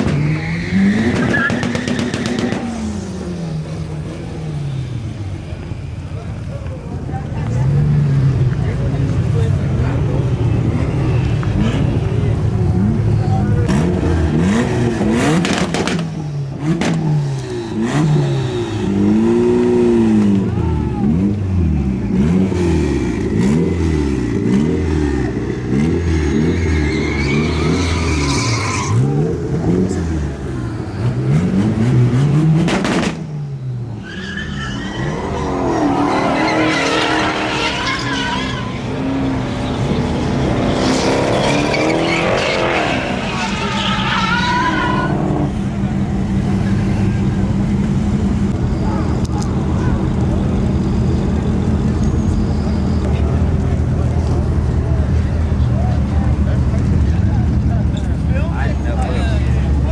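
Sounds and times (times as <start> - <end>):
tire squeal: 0.0 - 6.6, 9.0 - 47.8, 48.5 - 59.9
truck engine revving: 0.0 - 59.9.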